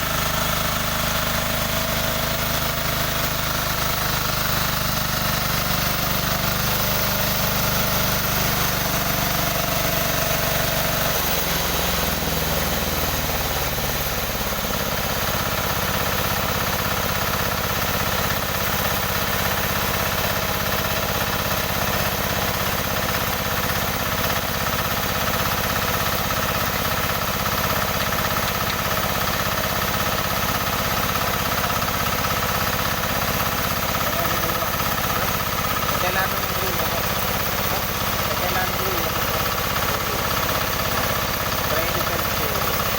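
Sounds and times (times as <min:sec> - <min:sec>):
sawmill engine humming: 0:00.0 - 0:42.9.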